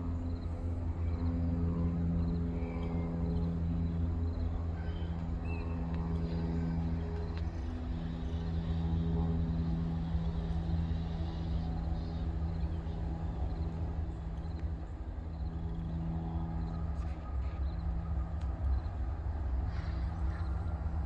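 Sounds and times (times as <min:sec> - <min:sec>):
diesel locomotive engine humming: 0:00.0 - 0:21.0.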